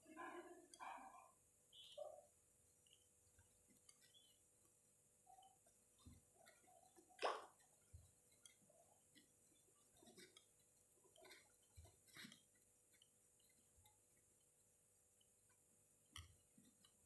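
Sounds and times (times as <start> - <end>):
knitting needles clicking: 0.0 - 17.0.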